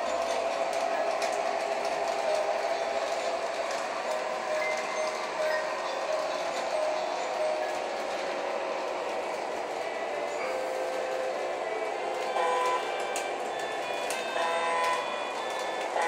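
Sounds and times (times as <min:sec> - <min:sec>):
model train rolling rumble: 0:00.0 - 0:16.0.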